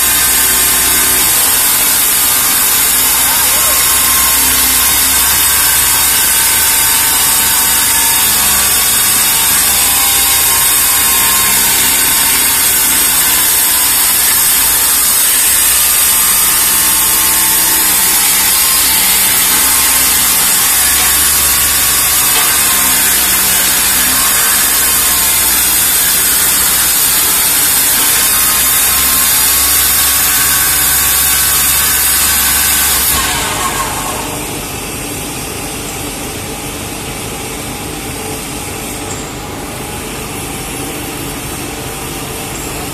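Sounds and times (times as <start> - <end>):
high-pitched glass cutting noise: 0.0 - 34.7.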